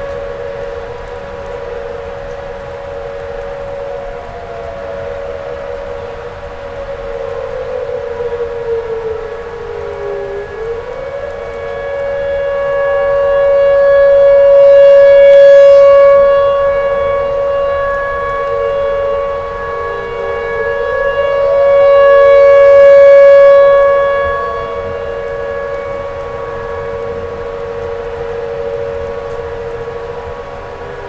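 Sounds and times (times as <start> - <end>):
warning siren wailing: 0.0 - 31.0.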